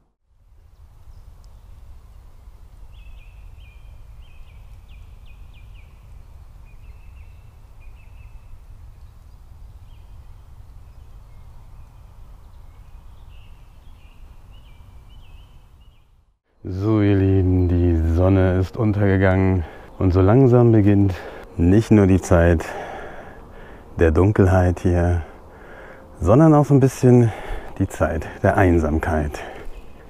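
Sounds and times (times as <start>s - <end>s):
distant motorway traffic rumble: 0.4s - 30.0s
songbirds singing: 0.6s - 30.0s.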